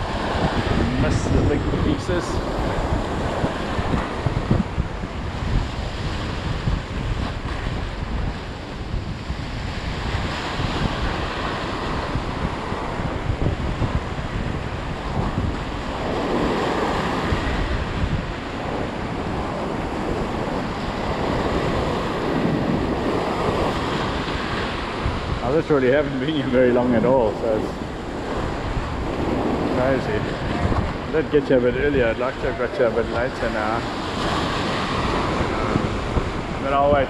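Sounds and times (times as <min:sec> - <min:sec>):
sea surf breaking on rocks: 0:00.0 - 0:37.0
wind buffeting microphone: 0:00.0 - 0:37.0.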